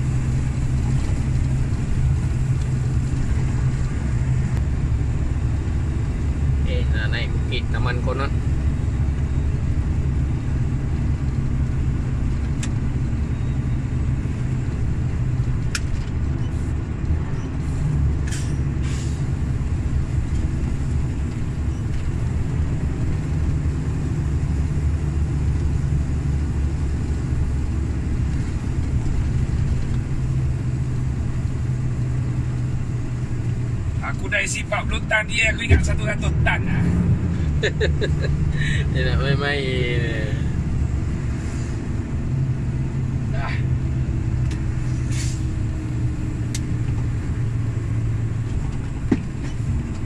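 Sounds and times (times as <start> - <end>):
road noise: 0.0 - 50.0
truck diesel engine drone: 0.0 - 50.0.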